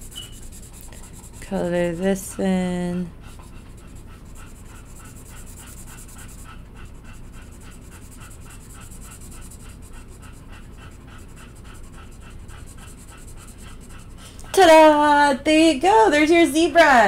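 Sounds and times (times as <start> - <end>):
marker scribbling on paper: 0.0 - 15.0.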